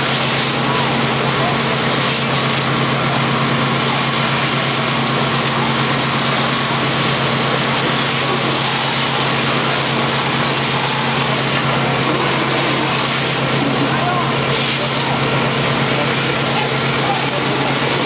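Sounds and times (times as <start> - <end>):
fire engine motor droning: 0.0 - 18.0
hose hissing: 0.1 - 18.0.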